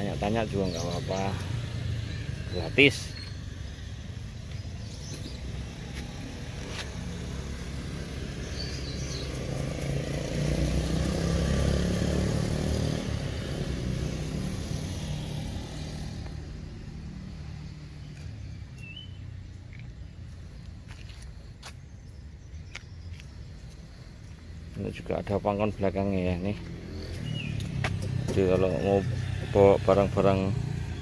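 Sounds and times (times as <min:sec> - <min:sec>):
vehicle passing by: 0:00.0 - 0:18.4, 0:23.7 - 0:31.0.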